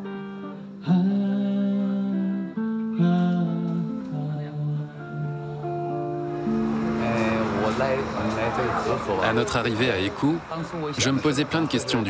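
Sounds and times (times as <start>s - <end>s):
electric guitar chords ringing: 0.0s - 9.7s.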